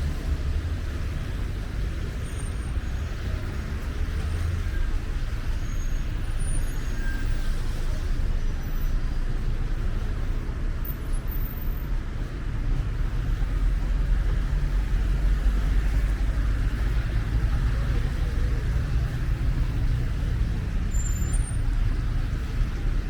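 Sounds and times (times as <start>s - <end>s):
traffic on a wet road: 0.0s - 23.0s.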